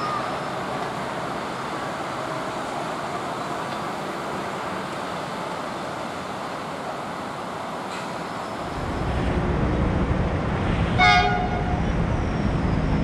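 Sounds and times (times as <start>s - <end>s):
distant freight train rumbling: 0.0s - 13.0s.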